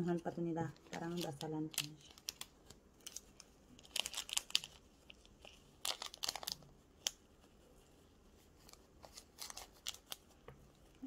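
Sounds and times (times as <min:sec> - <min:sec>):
fabric pouch rustling: 0:00.6 - 0:11.0.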